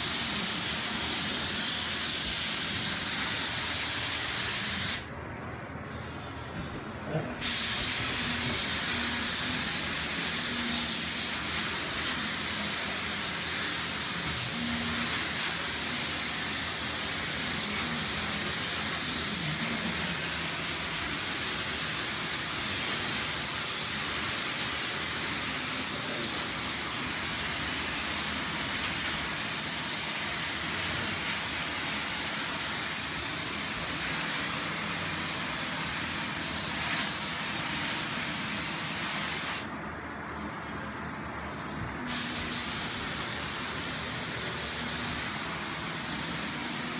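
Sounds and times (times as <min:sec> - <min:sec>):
spray gun hissing: 0:00.0 - 0:05.1, 0:07.4 - 0:39.7, 0:42.1 - 0:46.9.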